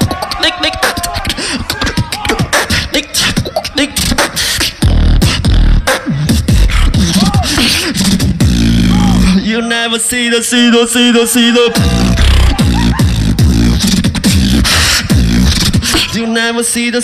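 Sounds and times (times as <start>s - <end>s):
beatboxing into microphone: 0.0s - 17.0s.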